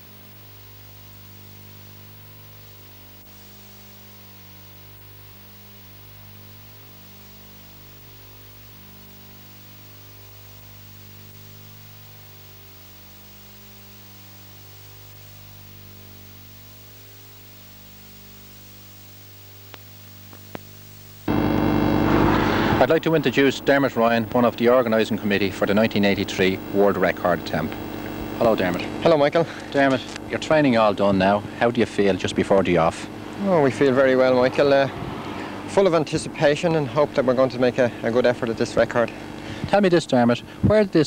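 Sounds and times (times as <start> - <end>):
tape hiss: 0.0 - 34.9
low electrical hum: 0.0 - 41.0.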